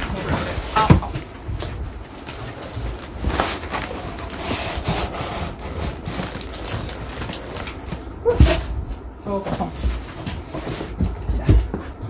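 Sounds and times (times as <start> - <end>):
cardboard scraping and scuffing: 0.0 - 12.0.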